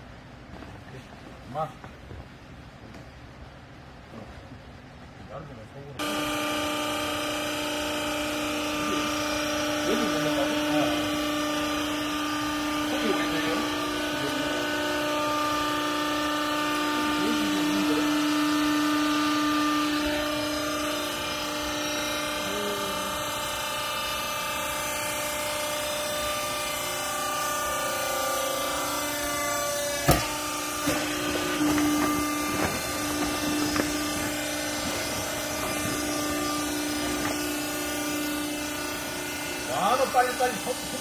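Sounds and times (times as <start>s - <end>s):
hydraulic power unit humming: 0.0s - 41.0s.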